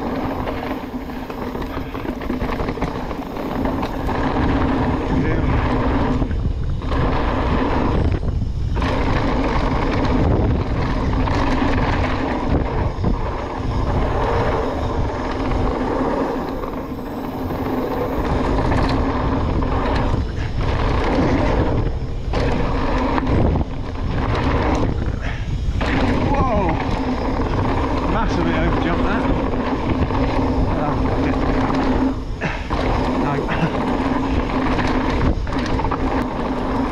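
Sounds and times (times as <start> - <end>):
bike tyres rumbling over dirt: 0.0 - 36.9
wind buffeting microphone: 0.0 - 36.9.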